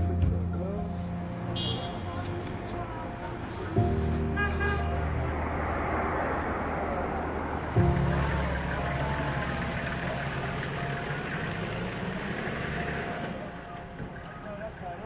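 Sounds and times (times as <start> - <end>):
car engine starting: 0.0 - 15.0
engine running with low hum: 2.2 - 15.0.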